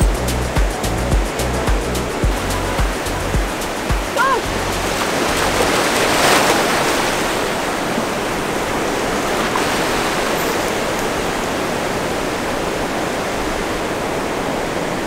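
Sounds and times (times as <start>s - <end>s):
ocean surf breaking: 0.6s - 15.0s.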